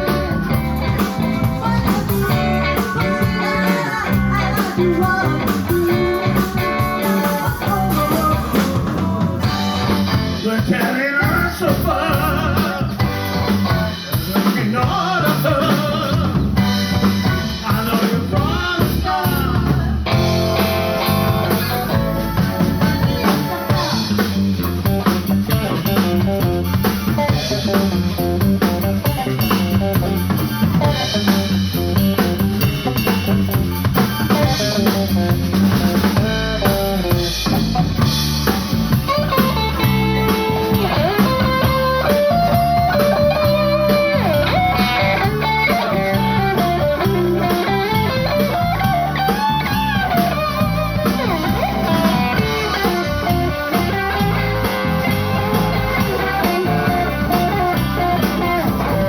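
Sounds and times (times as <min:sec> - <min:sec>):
blues-rock band playing: 0:00.0 - 0:59.0
gliding electric guitar lead: 0:00.0 - 0:59.0.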